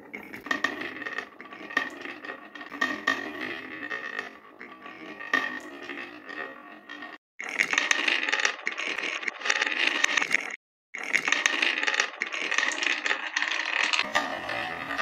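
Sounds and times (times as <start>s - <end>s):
marbles rattling on wooden tracks: 0.0s - 15.0s.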